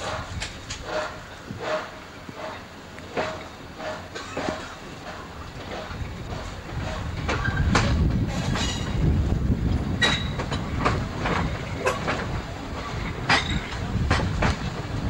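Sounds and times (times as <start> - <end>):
train wheels rumbling: 0.0 - 15.0
wheels clacking over rail joints: 0.0 - 15.0.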